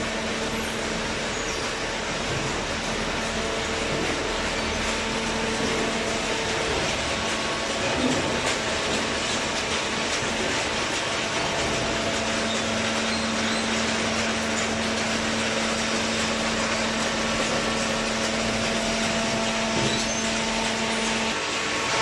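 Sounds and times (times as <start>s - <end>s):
baler machine running: 0.0s - 22.0s
constant machine hum: 0.0s - 22.0s.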